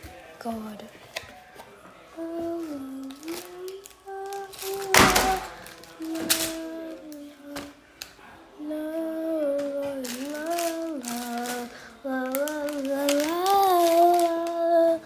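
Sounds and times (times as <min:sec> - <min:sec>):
child singing: 0:02.2 - 0:07.8, 0:08.6 - 0:15.0.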